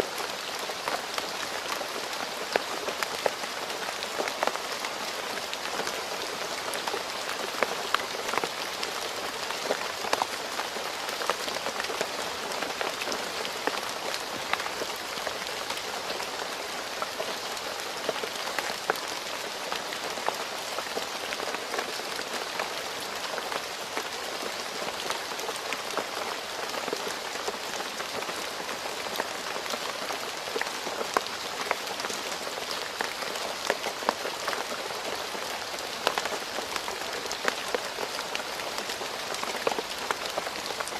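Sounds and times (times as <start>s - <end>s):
rain falling on a road: 0.0s - 40.9s.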